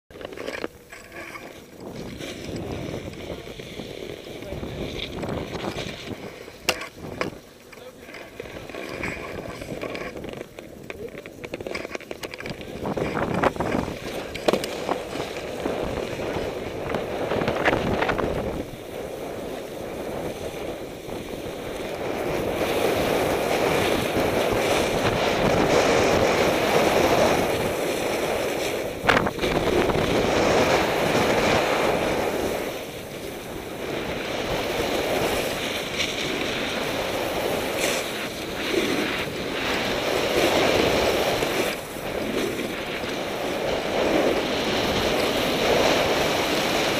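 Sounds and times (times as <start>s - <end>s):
snowboard scraping over snow: 0.1s - 46.9s
wind rushing over microphone: 0.2s - 46.9s.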